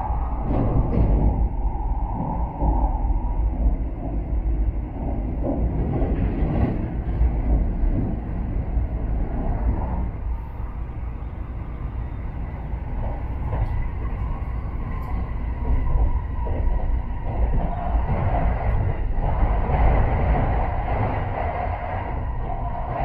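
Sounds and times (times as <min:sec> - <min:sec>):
train rumbling and rushing: 0:00.0 - 0:23.0.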